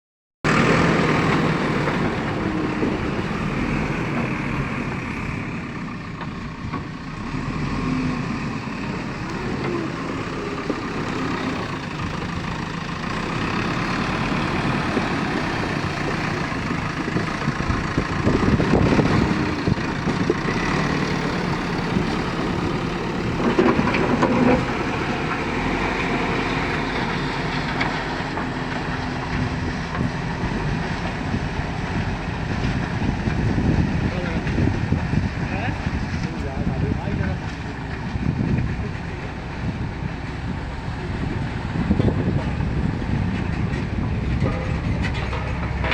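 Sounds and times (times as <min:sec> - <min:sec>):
diesel engine running: 0:00.4 - 0:45.9.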